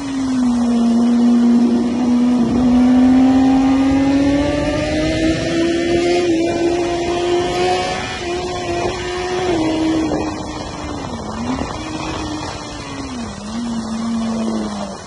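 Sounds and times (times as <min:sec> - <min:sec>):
motorcycle engine revving: 0:00.0 - 0:15.0
wind rush: 0:00.0 - 0:15.0.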